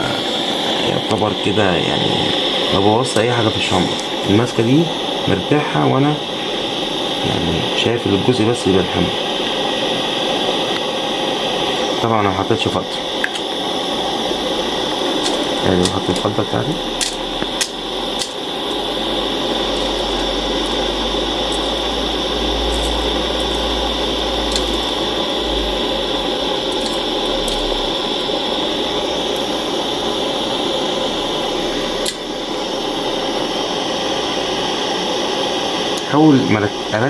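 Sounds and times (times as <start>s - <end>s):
torch flame hissing: 0.0s - 37.0s.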